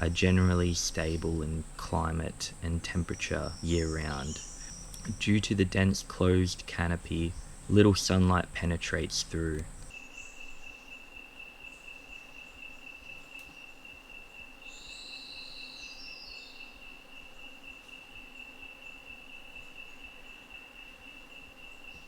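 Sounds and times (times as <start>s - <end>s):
high-pitched insect call: 0.0s - 22.0s.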